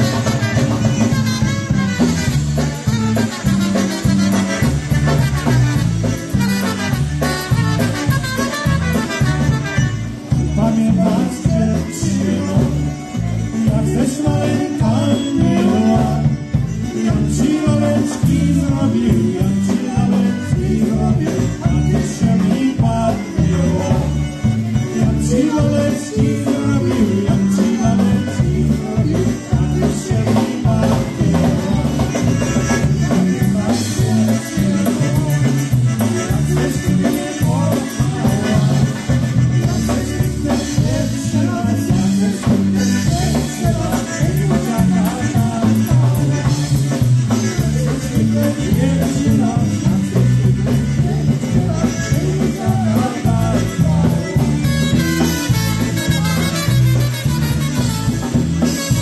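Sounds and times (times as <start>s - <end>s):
polka band playing: 0.0s - 59.0s.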